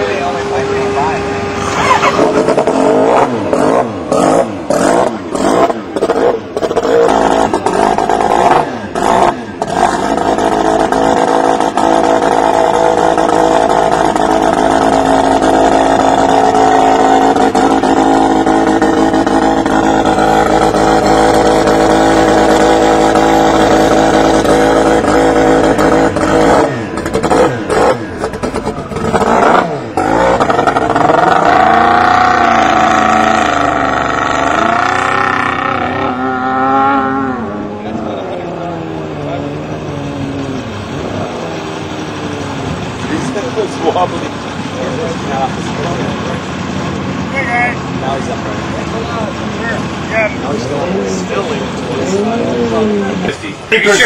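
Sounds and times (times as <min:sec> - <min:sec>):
racing engine revving: 0:00.0 - 0:54.0.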